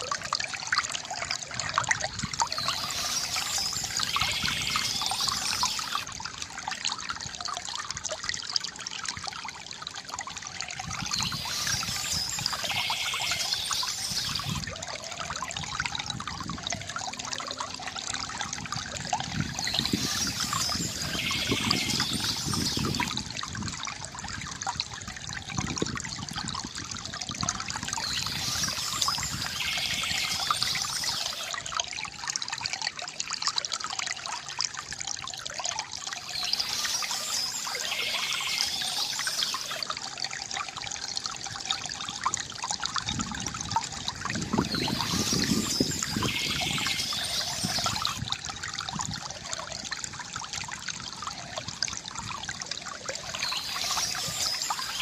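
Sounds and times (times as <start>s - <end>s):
river water gurgling over stones: 0.0s - 55.0s.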